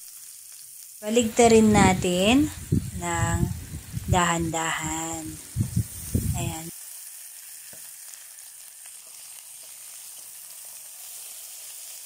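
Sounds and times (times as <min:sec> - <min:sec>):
fish sizzling in a pan: 0:00.0 - 0:12.0.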